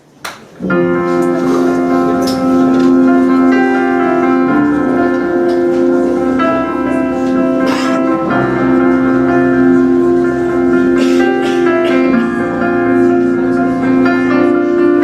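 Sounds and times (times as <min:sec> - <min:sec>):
live band held chords: 0:00.6 - 0:15.0.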